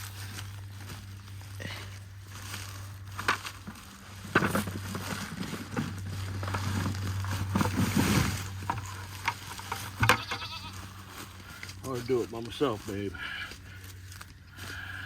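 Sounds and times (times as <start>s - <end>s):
rustling and knocks of apples: 0.0s - 14.4s.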